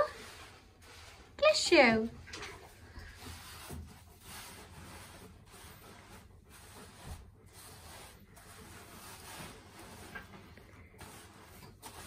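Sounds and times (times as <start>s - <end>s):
hands rubbing wet fur: 0.0s - 12.0s.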